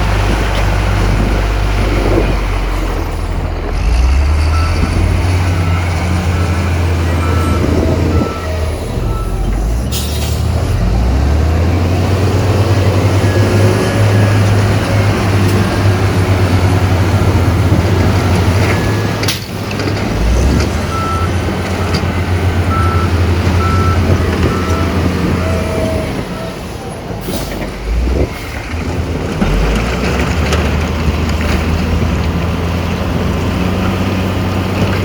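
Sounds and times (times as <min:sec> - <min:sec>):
heavy diesel engines running: 0:00.0 - 0:35.0.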